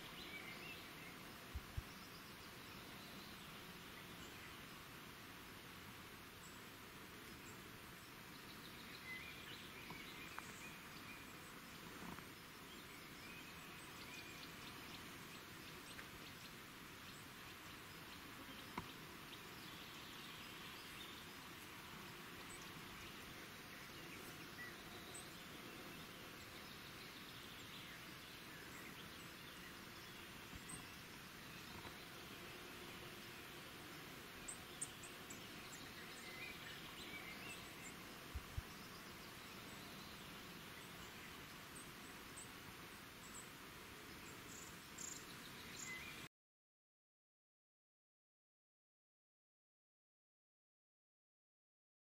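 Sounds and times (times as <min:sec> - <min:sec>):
low steady hiss: 0:00.0 - 0:46.3.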